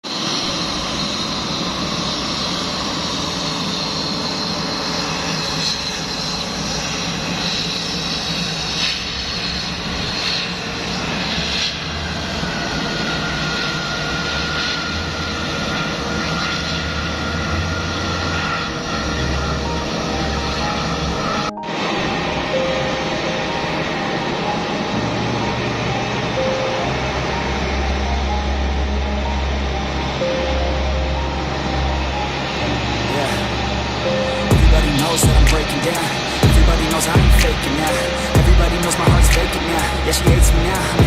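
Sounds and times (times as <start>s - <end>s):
airliner engines running: 0.0s - 41.0s
thin whine: 0.0s - 41.0s.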